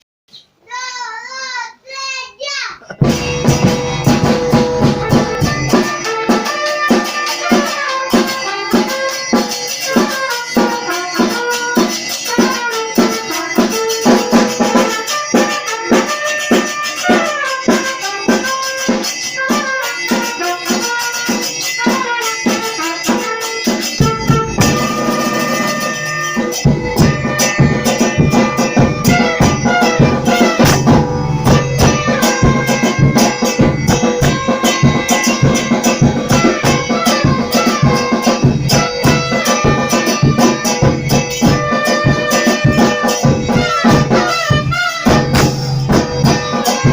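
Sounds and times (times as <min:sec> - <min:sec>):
drums: 0:00.3 - 0:46.9
stepping melody: 0:03.0 - 0:21.0, 0:21.6 - 0:46.9.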